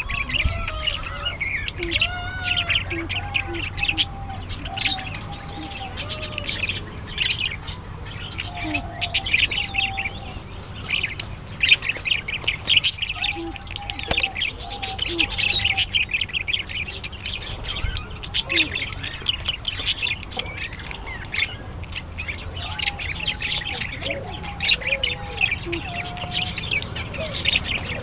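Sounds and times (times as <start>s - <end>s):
lovebirds chirping: 0.0s - 28.0s.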